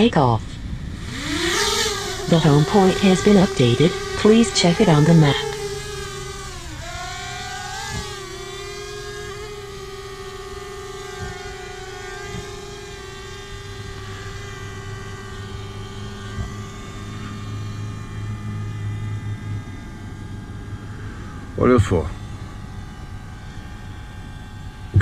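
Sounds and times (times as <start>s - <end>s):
drone propellers whining: 0.0s - 25.0s
low steady hum: 0.0s - 25.0s.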